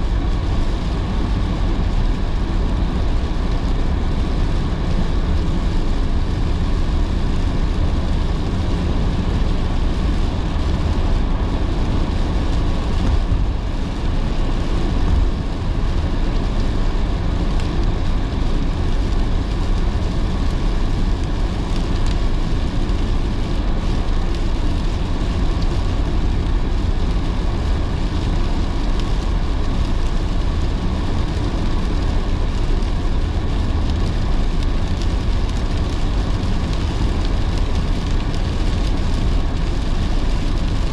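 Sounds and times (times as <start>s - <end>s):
car driving on wet road: 0.0s - 40.9s
heavy rain: 0.0s - 40.9s.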